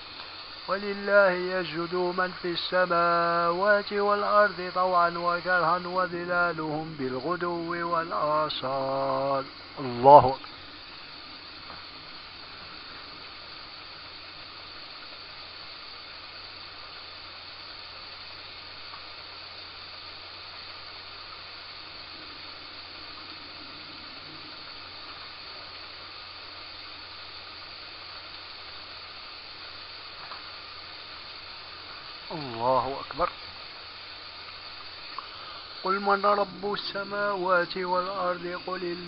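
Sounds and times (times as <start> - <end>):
low even hum: 0.0 - 39.0
recording noise hiss: 0.0 - 39.0.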